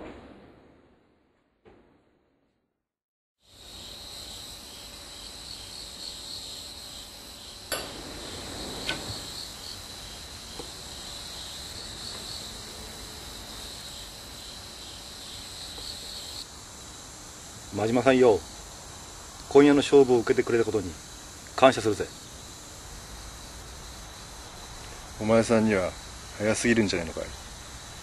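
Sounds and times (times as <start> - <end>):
night insects chirping: 3.4 - 28.0.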